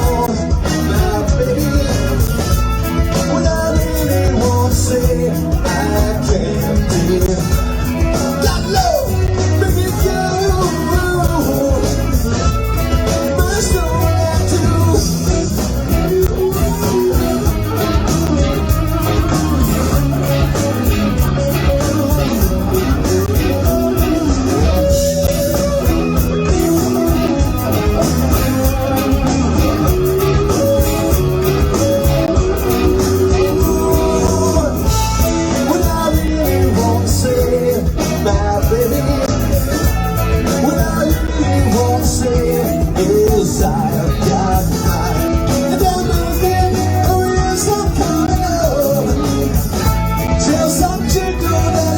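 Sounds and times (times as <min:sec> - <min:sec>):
bass guitar: 0:00.0 - 0:51.9
drums: 0:00.0 - 0:51.9
electric guitar: 0:00.0 - 0:51.9
person singing: 0:00.0 - 0:51.9.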